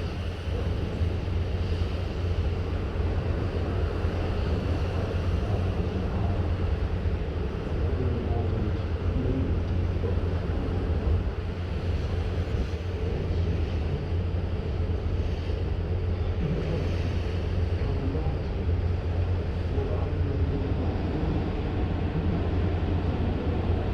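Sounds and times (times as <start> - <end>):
sea washing: 0.0 - 23.9.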